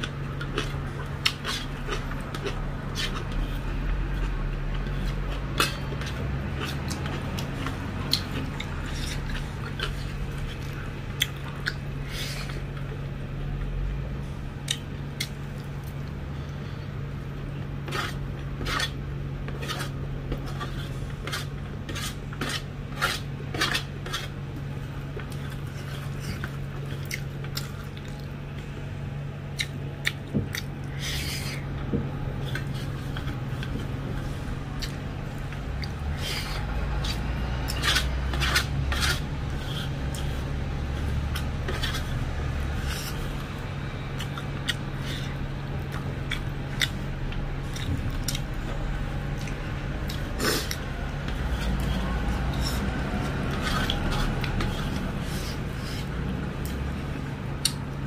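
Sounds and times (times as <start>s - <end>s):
wet chewing: 0.0s - 13.0s, 17.8s - 28.4s, 29.5s - 56.8s
steady low hum: 0.0s - 58.0s.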